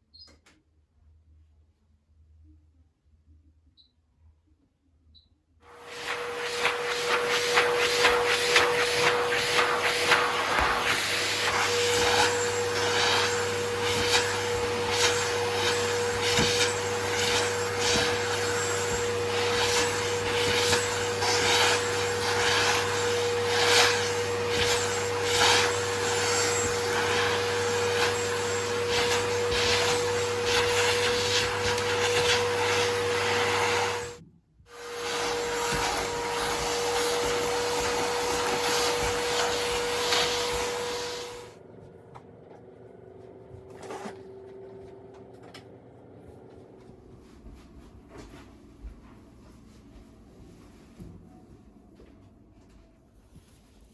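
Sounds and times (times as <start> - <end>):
vacuum cleaner running: 5.7 - 51.1.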